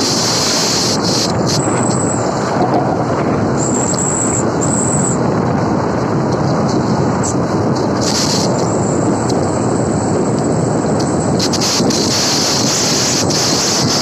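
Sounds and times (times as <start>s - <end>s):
heavy truck engine rumble: 0.0s - 14.0s
road noise: 0.0s - 14.0s.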